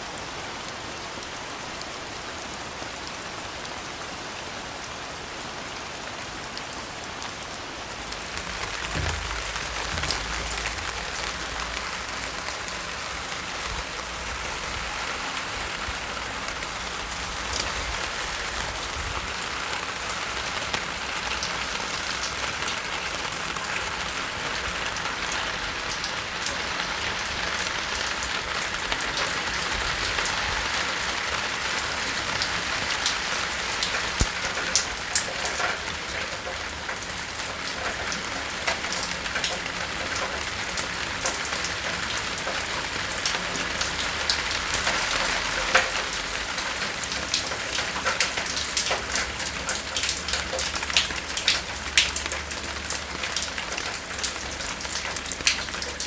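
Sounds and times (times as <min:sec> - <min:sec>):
steady rain hiss: 0:00.0 - 0:56.0
raindrops clicking close by: 0:07.9 - 0:56.0.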